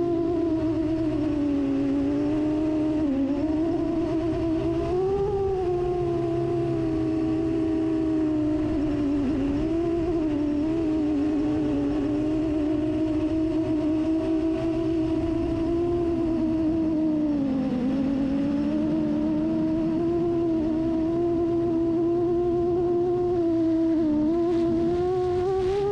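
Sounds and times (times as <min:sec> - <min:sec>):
drone propellers buzzing: 0:00.0 - 0:25.9.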